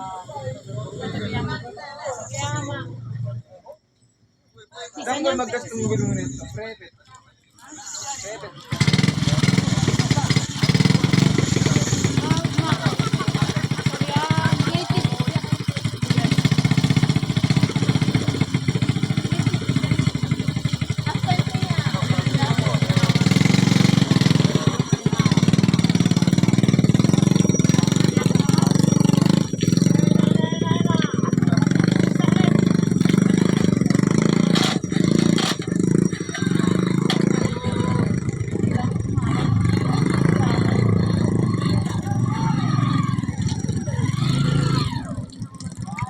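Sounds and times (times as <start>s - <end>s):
small motorcycle engine running: 8.6s - 46.0s.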